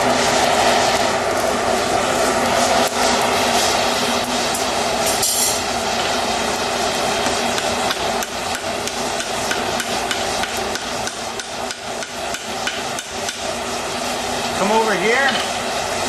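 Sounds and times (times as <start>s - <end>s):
forge blower running: 0.0s - 16.0s.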